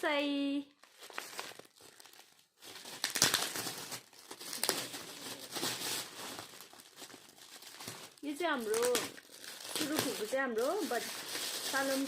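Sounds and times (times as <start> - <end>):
gift wrapping crinkling: 0.0 - 12.0.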